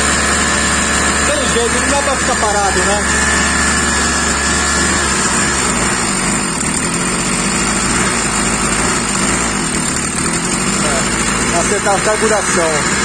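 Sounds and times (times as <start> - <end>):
brush cutter engine running: 0.0 - 13.0.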